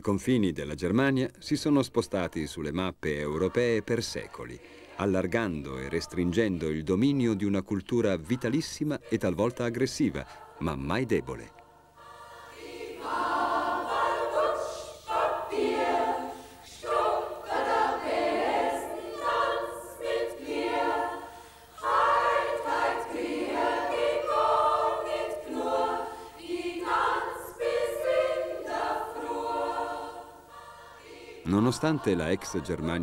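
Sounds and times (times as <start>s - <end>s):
women's choir singing: 3.2s - 33.0s.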